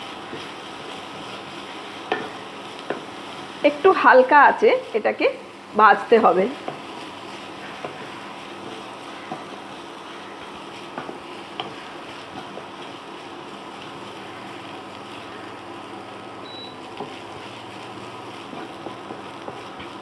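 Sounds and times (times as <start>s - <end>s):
paste frying in oil: 0.0s - 20.0s.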